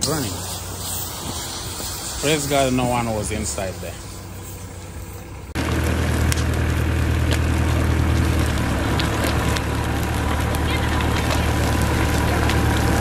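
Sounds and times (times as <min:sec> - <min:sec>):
heavy vehicle engine idling: 0:00.0 - 0:13.0
pops and crackles of burning car: 0:00.0 - 0:13.0.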